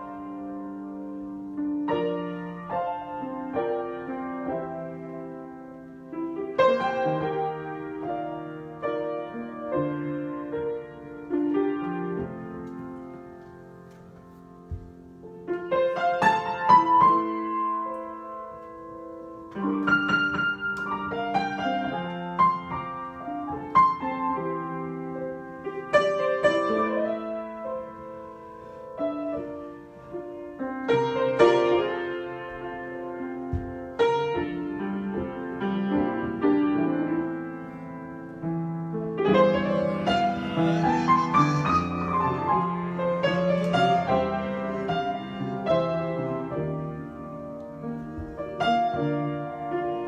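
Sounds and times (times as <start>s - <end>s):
solo piano improvising: 0.0s - 50.0s.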